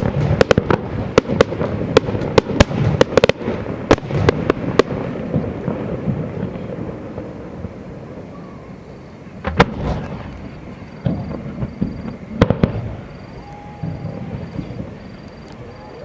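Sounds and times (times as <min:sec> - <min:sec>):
fireworks cracking: 0:00.0 - 0:16.0.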